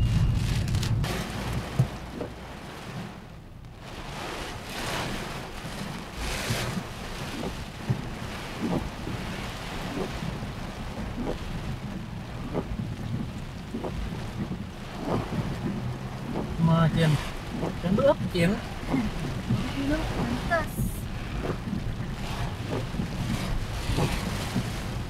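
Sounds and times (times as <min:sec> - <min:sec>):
heavy rain on car roof: 0:00.0 - 0:25.0
low rumble: 0:00.0 - 0:25.0.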